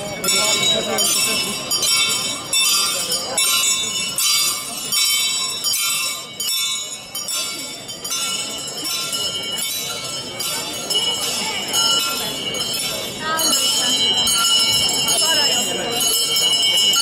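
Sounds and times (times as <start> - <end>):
bells ringing: 0.0 - 17.0.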